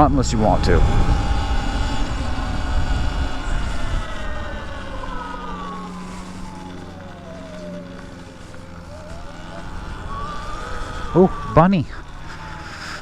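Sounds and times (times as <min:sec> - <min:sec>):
electric motor whine: 0:00.0 - 0:13.0
wind and road noise: 0:00.0 - 0:13.0.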